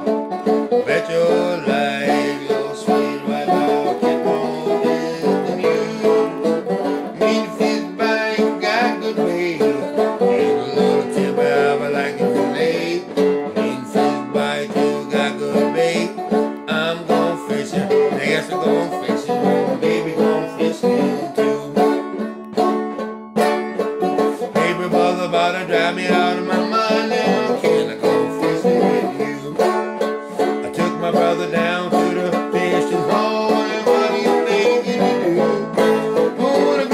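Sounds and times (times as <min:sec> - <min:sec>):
banjo plucked notes: 0:00.0 - 0:36.9.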